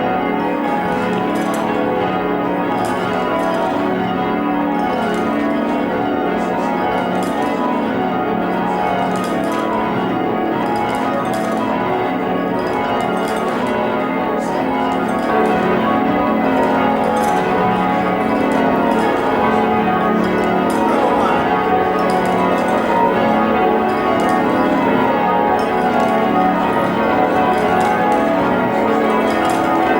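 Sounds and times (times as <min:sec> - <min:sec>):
church tower bells ringing: 0:00.0 - 0:29.9.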